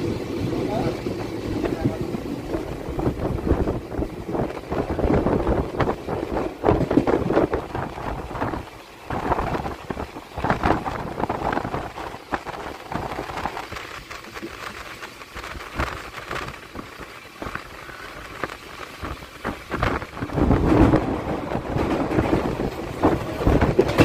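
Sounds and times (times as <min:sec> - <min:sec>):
train wheel and rail rumble: 0:00.0 - 0:24.0
wind buffeting microphone: 0:00.0 - 0:24.0.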